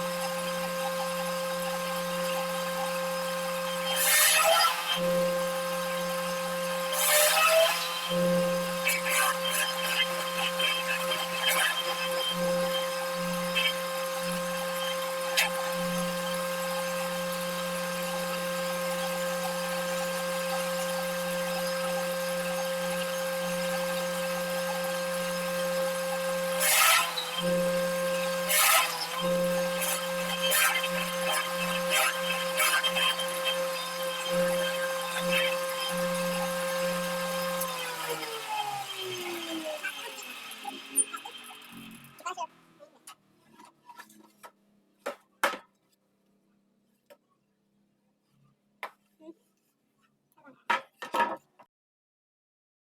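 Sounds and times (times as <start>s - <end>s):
wood planer motor hum: 0.0s - 42.9s
planer cutting into wood: 0.0s - 44.5s.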